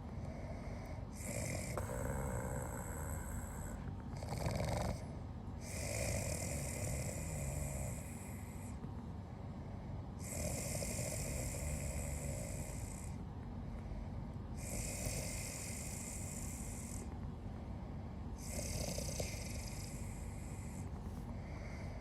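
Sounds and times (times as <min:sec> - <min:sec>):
soft rhythmic snoring: 0:00.0 - 0:22.0.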